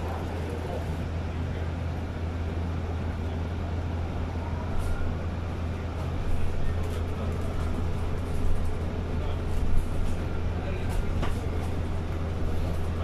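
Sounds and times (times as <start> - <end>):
bus cabin low drone: 0.0 - 13.0
road noise: 0.0 - 13.0.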